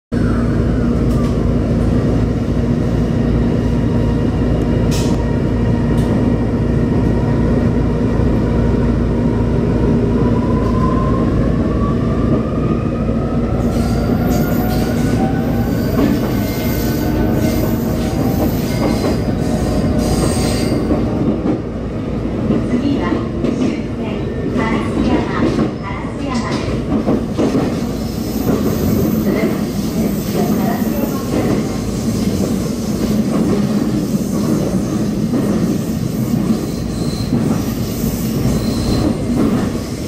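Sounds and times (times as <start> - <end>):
train wheels rumbling on rail: 0.2 - 40.0.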